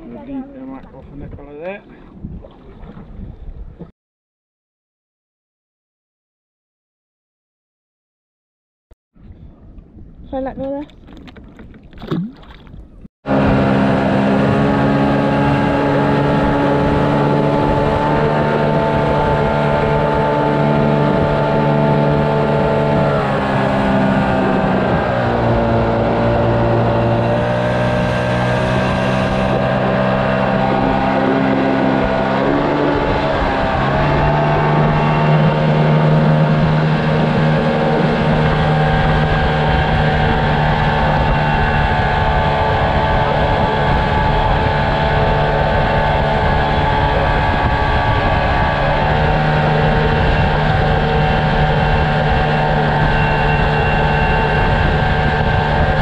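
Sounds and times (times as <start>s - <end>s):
rush of wind and water: 0.0s - 3.9s, 9.2s - 56.0s
outboard motor running: 10.4s - 56.0s.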